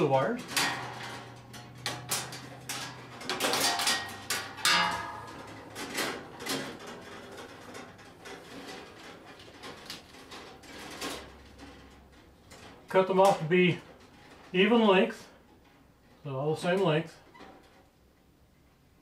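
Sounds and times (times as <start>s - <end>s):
wires rustling and scraping: 0.0s - 19.0s.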